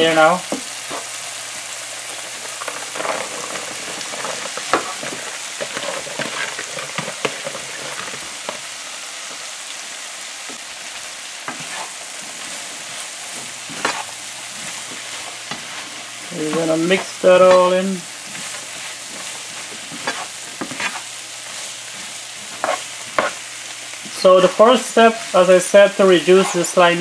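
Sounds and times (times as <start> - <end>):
vegetables sizzling in hot oil: 0.0 - 27.0
spoon stirring in frying pan: 0.2 - 9.6, 10.4 - 27.0.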